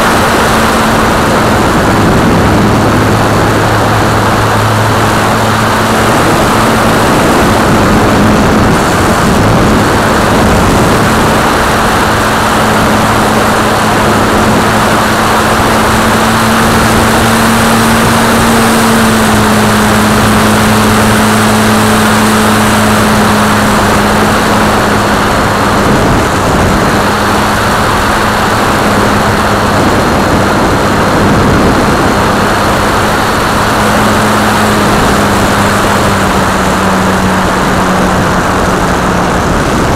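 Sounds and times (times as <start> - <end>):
model plane motor droning: 0.0 - 39.9
wind rush: 0.0 - 39.9.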